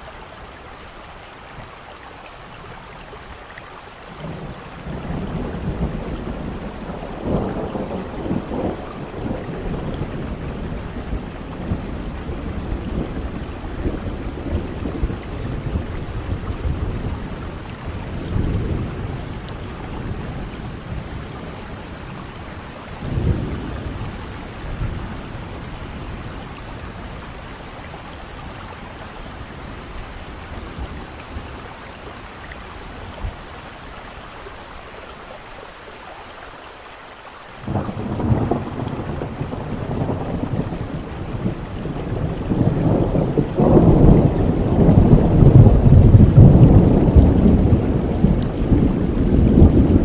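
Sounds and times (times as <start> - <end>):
rain hissing: 0.0 - 50.0
thunder rumbling: 4.1 - 33.8, 37.6 - 50.0.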